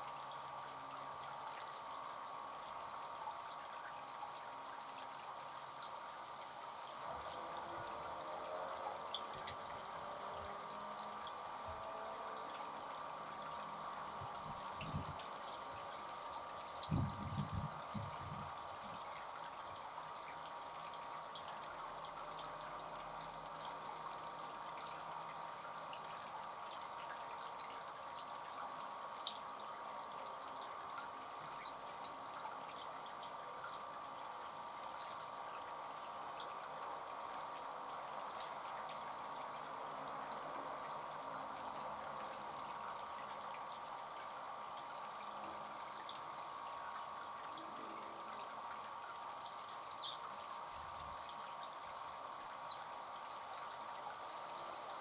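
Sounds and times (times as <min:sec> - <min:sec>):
fountain water trickling: 0:00.0 - 0:55.0
small water drips: 0:00.0 - 0:55.0.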